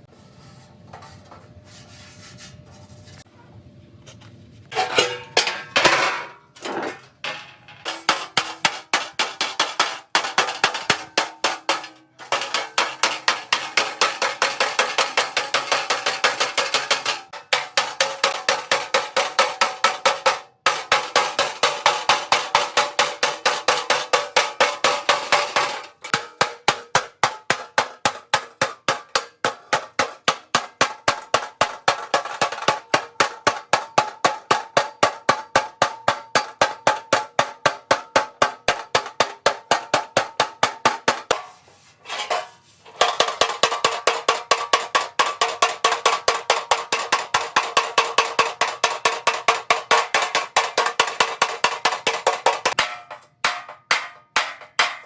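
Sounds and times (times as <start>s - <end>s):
hammer blows on sheet metal: 7.8s - 55.0s.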